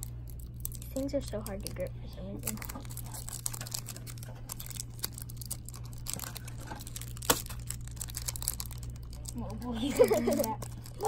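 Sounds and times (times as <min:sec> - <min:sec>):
foil wrapper crinkling: 0:00.0 - 0:11.0
low hum: 0:00.0 - 0:11.0.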